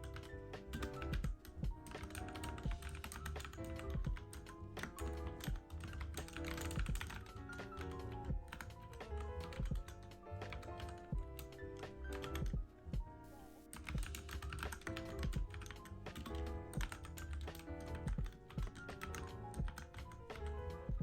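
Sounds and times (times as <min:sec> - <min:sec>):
mechanical keyboard typing: 0:00.0 - 0:12.5, 0:13.7 - 0:20.9
soft background music: 0:00.0 - 0:21.0.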